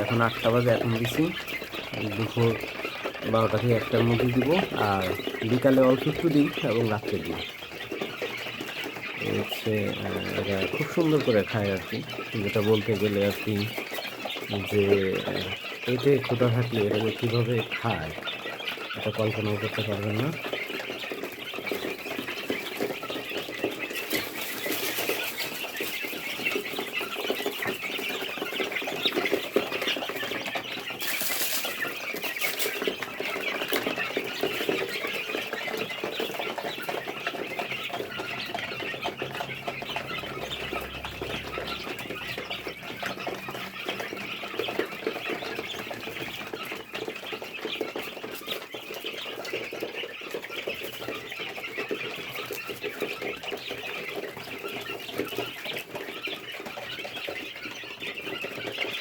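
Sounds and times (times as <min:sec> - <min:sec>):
beaks pecking at feed: 0:00.0 - 0:59.0
chicks calling: 0:00.0 - 0:59.0.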